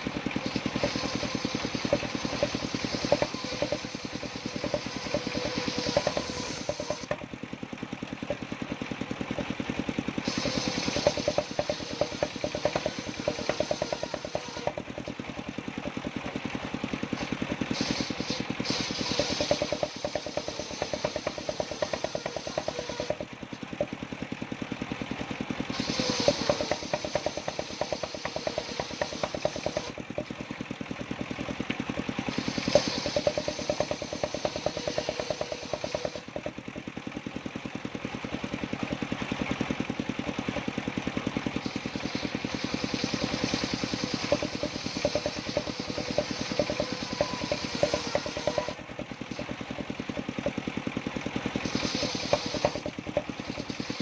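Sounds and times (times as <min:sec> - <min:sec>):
saw blade cutting wood: 0:00.0 - 0:07.3, 0:09.4 - 0:24.0, 0:25.6 - 0:30.6, 0:31.6 - 0:36.6, 0:41.3 - 0:50.6, 0:51.4 - 0:54.0
rapid engine beat: 0:00.0 - 0:54.0.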